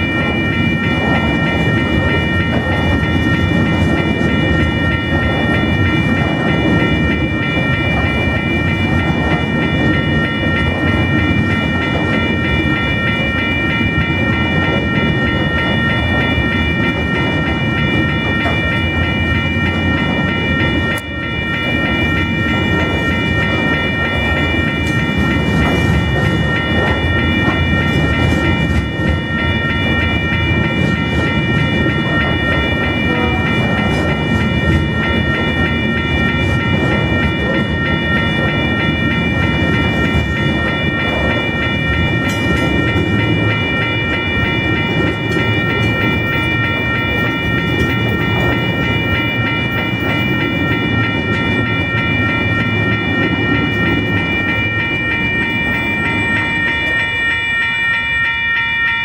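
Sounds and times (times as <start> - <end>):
freight wagons rumbling: 0.0 - 58.3
crossing bells ringing: 0.0 - 59.0.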